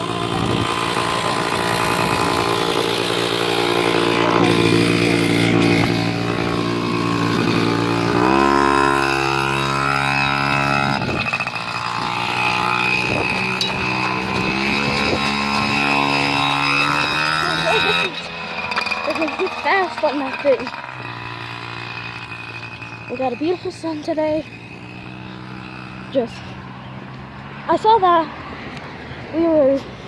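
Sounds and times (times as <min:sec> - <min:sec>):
mini motorcycle engine running: 0:00.0 - 0:28.3.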